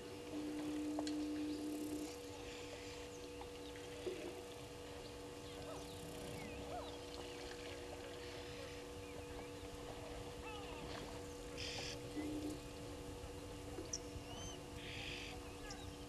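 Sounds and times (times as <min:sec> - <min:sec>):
faint steady hum tones: 0:00.0 - 0:16.0.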